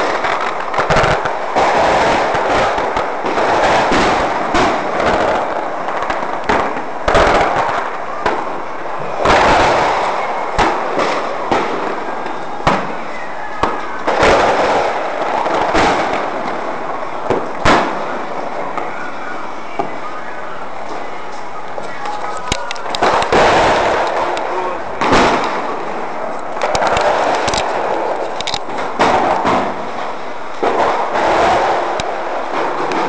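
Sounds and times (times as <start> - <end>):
fireworks bangs: 0.0 - 33.0
fireworks crackling: 0.0 - 33.0.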